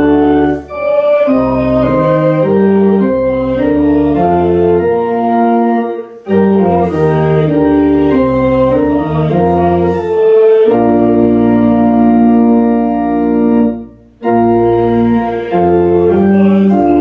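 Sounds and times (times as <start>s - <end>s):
church organ playing chords: 0.0s - 17.0s.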